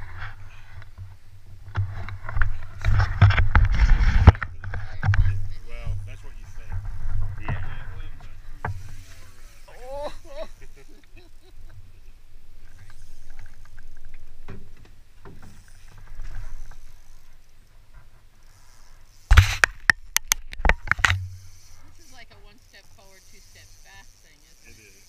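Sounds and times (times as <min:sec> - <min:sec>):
boat engine rumble: 0:00.0 - 0:25.0.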